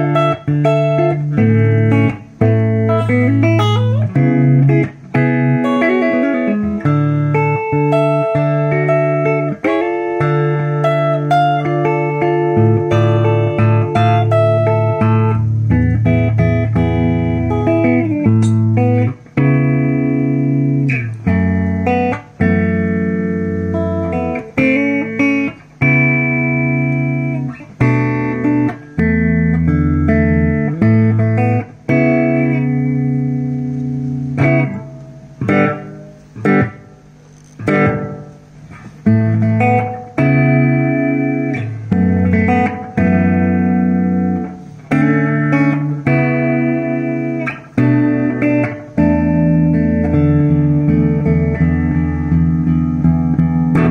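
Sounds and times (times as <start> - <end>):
guitar with echo repeats: 0.0 - 53.9.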